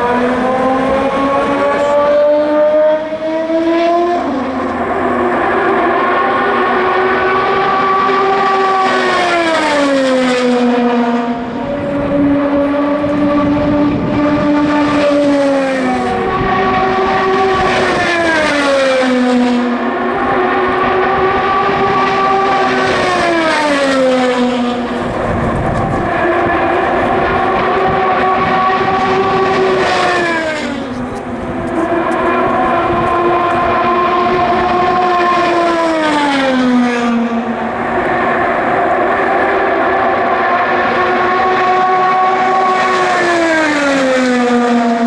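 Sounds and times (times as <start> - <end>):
race cars passing at full speed: 0.0 - 45.0.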